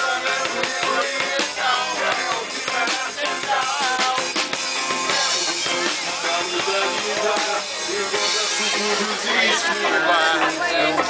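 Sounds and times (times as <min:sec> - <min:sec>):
drum kit beat: 0:00.0 - 0:11.0
live rock band playing: 0:00.0 - 0:11.0.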